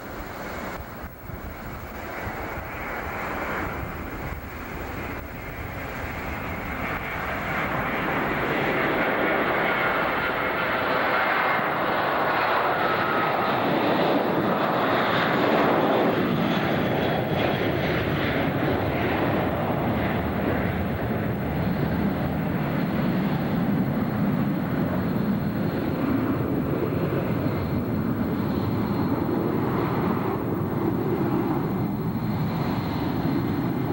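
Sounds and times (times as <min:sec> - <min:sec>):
jet airliner taking off: 0:00.0 - 0:33.9.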